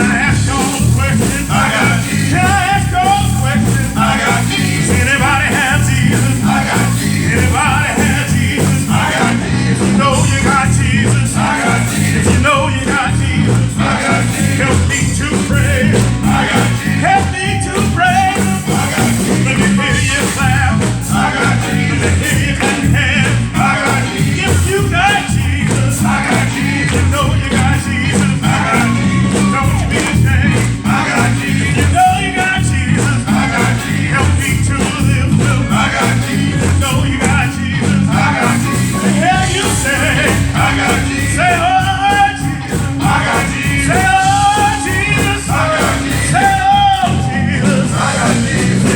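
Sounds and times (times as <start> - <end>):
church band with drums: 0.0 - 48.9
voices singing: 0.0 - 48.9.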